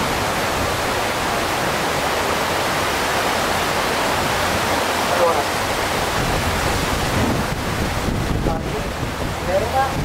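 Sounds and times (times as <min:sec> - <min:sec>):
river rapids rushing: 0:00.0 - 0:10.0.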